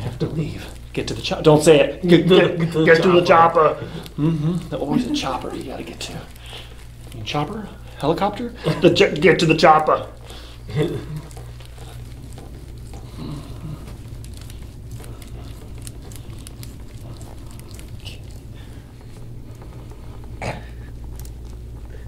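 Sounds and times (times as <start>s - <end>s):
low room hum: 0.0s - 22.0s
roller rustling on shirt: 0.0s - 22.0s.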